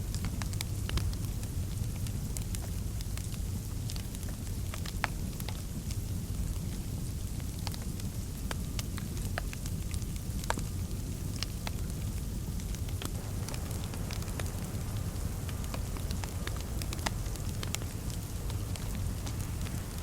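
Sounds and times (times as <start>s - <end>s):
fire popping and snapping: 0.0s - 20.0s
low fire rumble: 0.0s - 20.0s
wood fire crackling: 0.0s - 20.0s.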